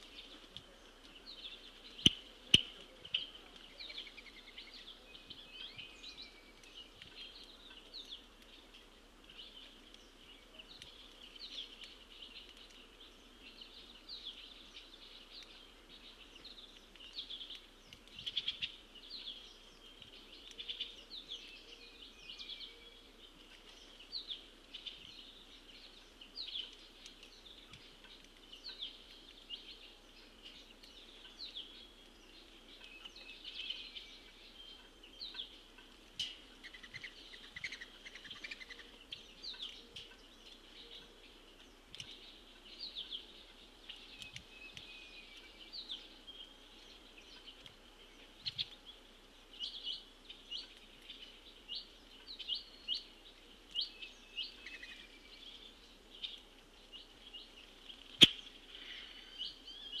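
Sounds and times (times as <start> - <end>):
birds chirping: 0.0 - 60.0.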